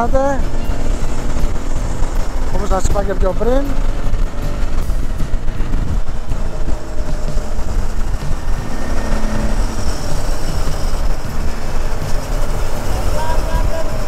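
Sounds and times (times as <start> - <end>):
motorcycle engine rumble: 0.0 - 14.0
wind rush on microphone: 0.0 - 14.0.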